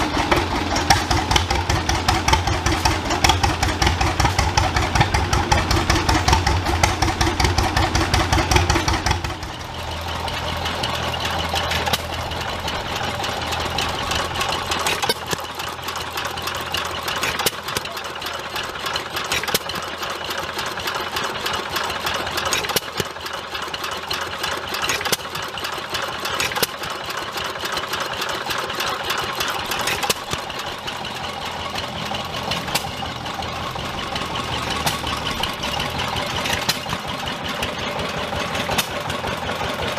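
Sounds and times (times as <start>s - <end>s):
flywheel engine ticking and firing: 0.0s - 39.9s
larger engine running steadily: 0.0s - 39.9s.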